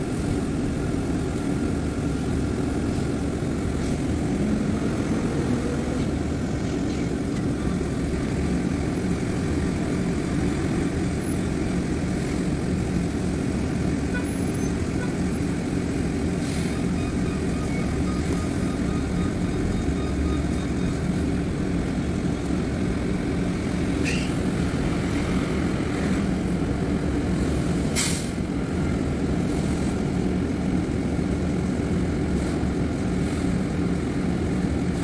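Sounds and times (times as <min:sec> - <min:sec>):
truck engine running: 0:00.0 - 0:35.0.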